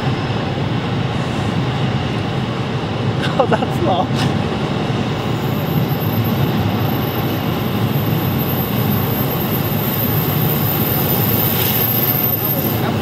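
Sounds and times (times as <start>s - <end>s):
freight wagons rumbling on rails: 0.0s - 13.0s.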